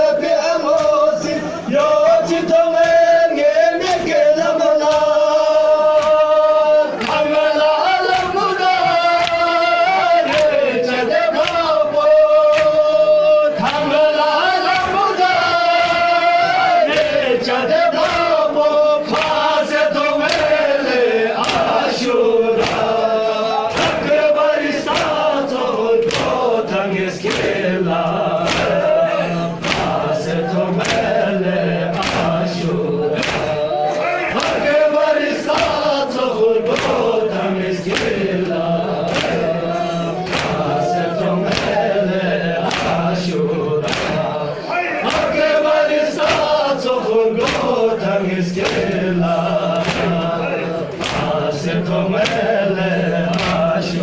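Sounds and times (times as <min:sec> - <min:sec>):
men chanting together: 0:00.0 - 0:54.0
rhythmic chest-beating: 0:00.0 - 0:54.0.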